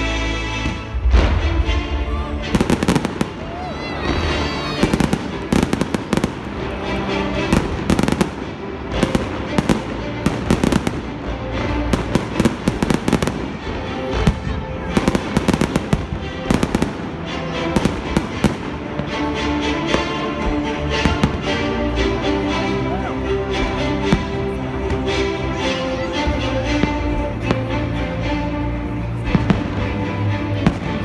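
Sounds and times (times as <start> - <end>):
music playing: 0.0 - 31.0.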